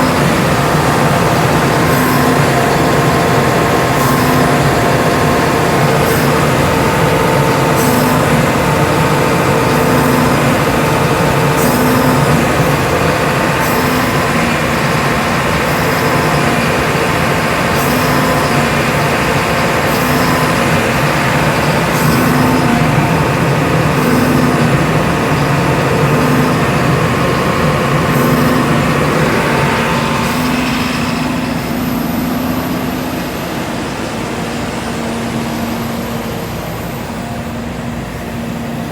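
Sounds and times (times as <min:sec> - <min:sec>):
tracked excavator running: 0:00.0 - 0:38.9.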